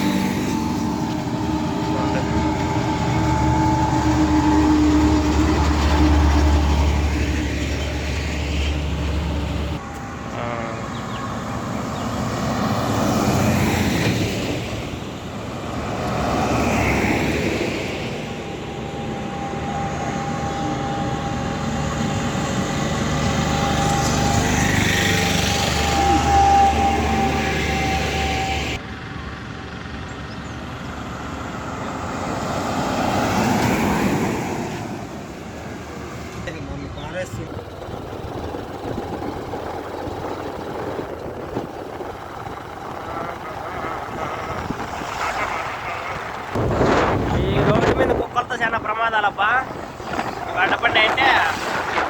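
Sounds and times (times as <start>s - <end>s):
heavy vehicle engine drone: 0.0s - 52.0s
road noise: 0.0s - 52.0s
vehicles passing by: 0.0s - 52.0s.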